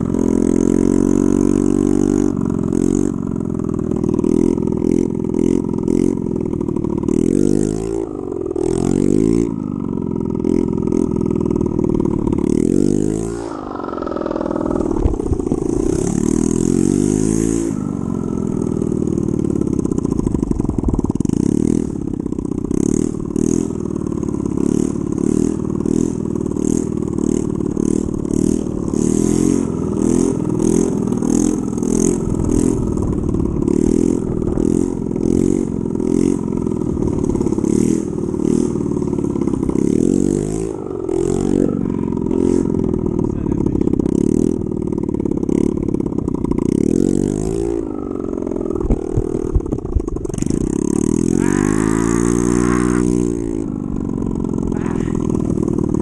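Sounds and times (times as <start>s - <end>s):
small motorbike engine revving: 0.0s - 56.0s.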